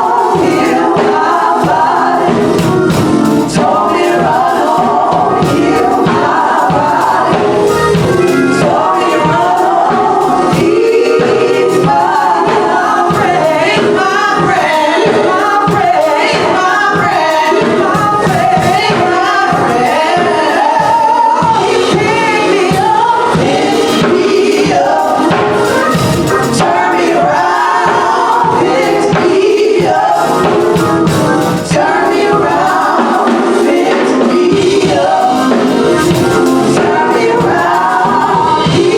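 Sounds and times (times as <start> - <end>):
band accompaniment: 0.0 - 38.9
gospel choir singing: 0.0 - 38.9.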